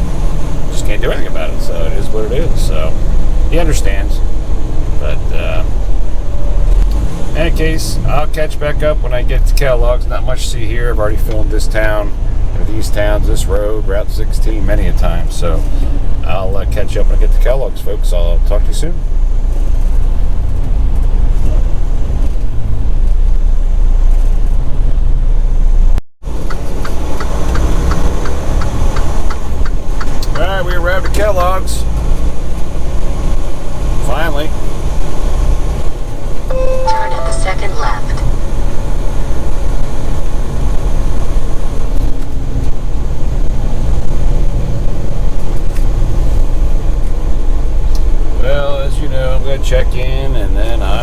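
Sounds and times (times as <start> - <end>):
truck diesel engine rumble: 0.0 - 51.0.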